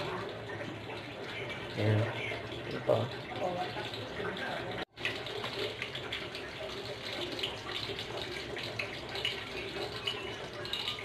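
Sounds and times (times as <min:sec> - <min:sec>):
spring rolls frying in oil: 0:00.0 - 0:11.0.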